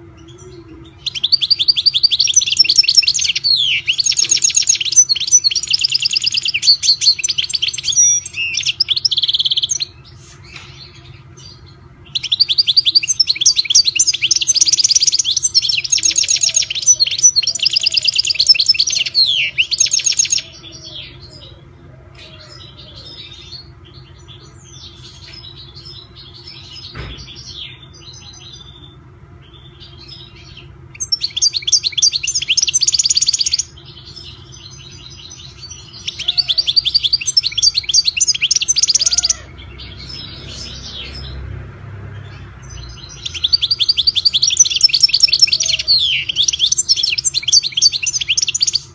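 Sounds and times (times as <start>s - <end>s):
goldfinch singing: 0.0s - 48.9s.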